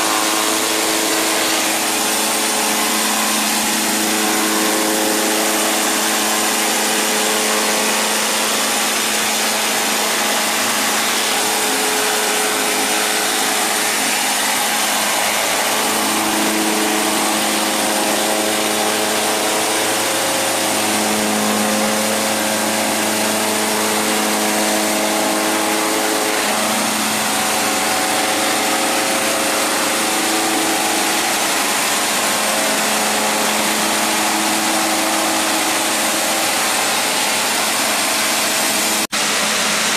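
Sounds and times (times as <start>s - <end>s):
concrete scarifier grinding: 0.0s - 39.9s.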